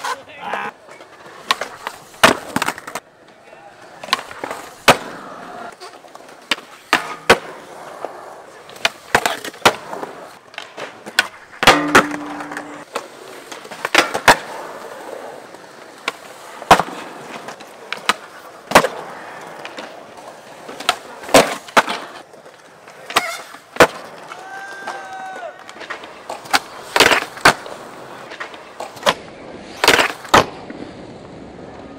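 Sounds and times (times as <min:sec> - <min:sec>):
skateboard clacks: 0:00.0 - 0:31.9
skateboard grinding on rail: 0:00.0 - 0:31.9
skateboard wheels rolling on concrete: 0:00.0 - 0:31.9.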